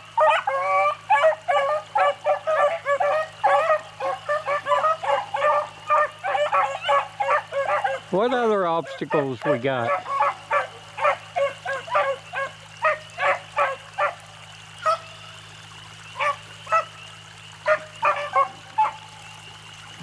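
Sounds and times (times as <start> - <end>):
dogs baying and barking: 0.0 - 15.2, 16.0 - 20.0.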